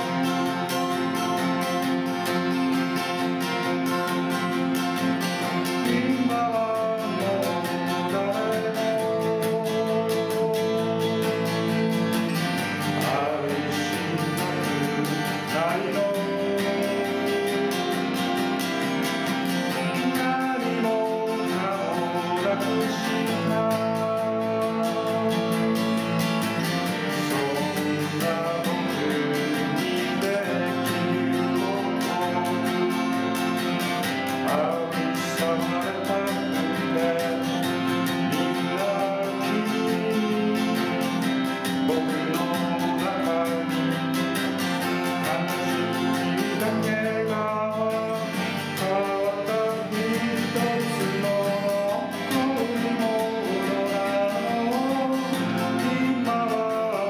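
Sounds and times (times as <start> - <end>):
acoustic guitar strumming: 0.0 - 57.0
person singing: 0.0 - 57.0.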